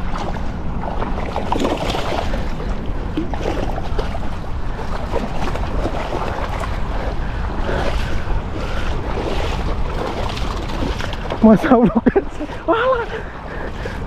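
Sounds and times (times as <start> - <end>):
moving water: 0.0 - 14.0
wind buffeting microphone: 0.0 - 14.0.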